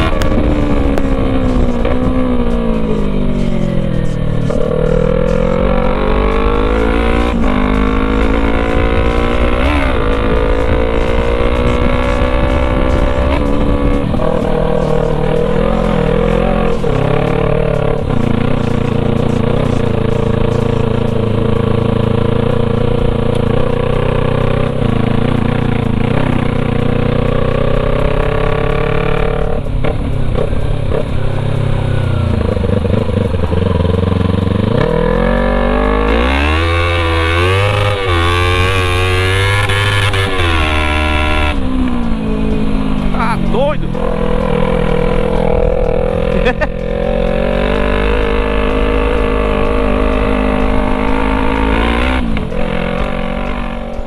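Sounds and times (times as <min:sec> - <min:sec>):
loud motorcycle engine revving: 0:00.0 - 0:54.0.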